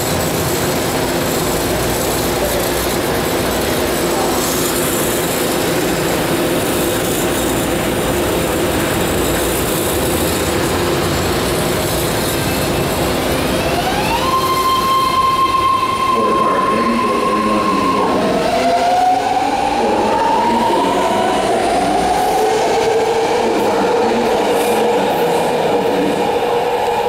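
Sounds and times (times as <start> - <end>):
echoing station noise: 0.0 - 27.0
train equipment humming: 0.0 - 27.0.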